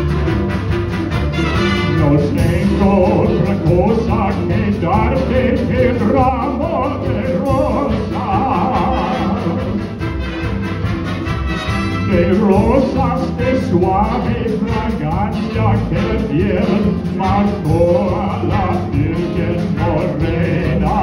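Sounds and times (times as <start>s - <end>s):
big band playing: 0.0s - 21.0s.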